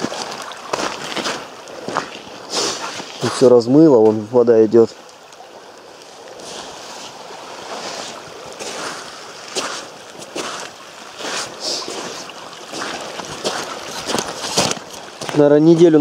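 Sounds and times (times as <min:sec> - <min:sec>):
stream of water rushing: 0:00.0 - 0:16.0.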